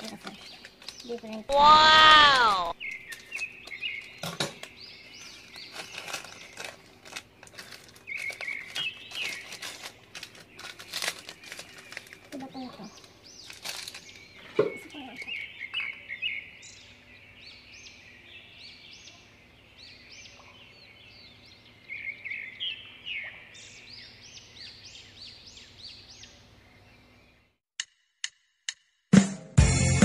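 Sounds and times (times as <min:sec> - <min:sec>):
small birds chirping: 0:00.0 - 0:27.6.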